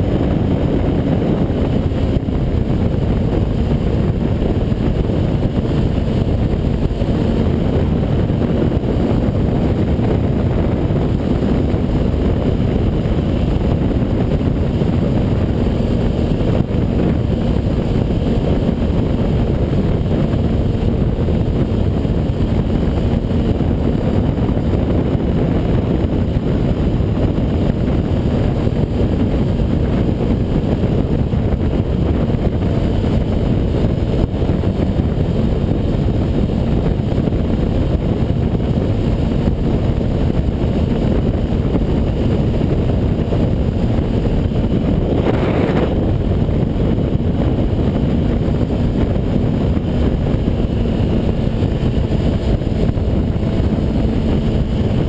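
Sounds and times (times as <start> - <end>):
motorcycle engine cruising: 0.0 - 55.0
wind buffeting microphone: 0.0 - 55.0.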